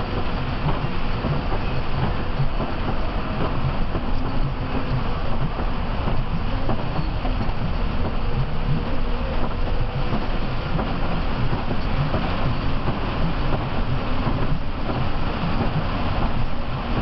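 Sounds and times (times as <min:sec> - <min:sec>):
bus engine and tyres rumbling: 0:00.0 - 0:17.0.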